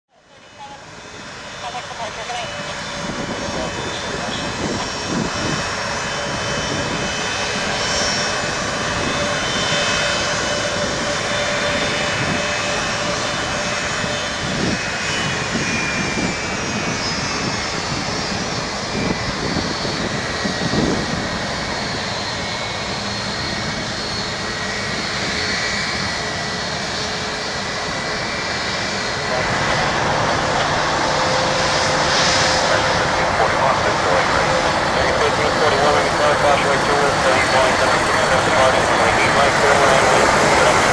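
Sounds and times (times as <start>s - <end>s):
jet engines whining: 0.4s - 40.9s.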